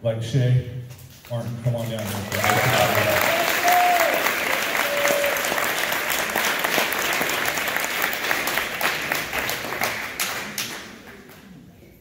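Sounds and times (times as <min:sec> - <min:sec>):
audience applauding: 0:01.7 - 0:11.6.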